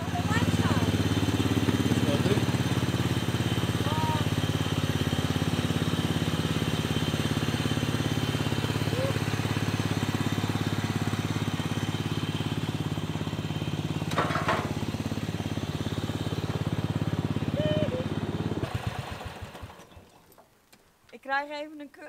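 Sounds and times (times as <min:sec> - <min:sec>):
lawn tractor engine running: 0:00.0 - 0:20.6.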